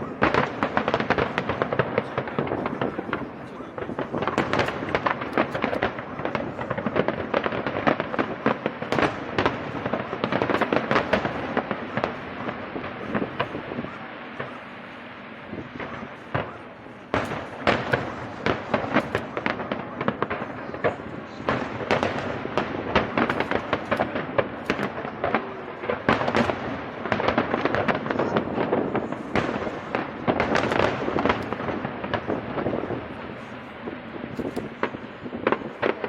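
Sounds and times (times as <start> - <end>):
continuous rumble: 0.0 - 36.0
fireworks bangs and crackles: 0.0 - 36.0.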